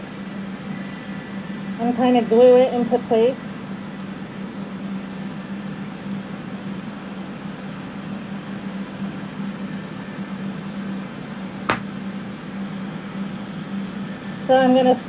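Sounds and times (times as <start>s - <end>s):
ventilation fans humming: 0.0s - 15.0s.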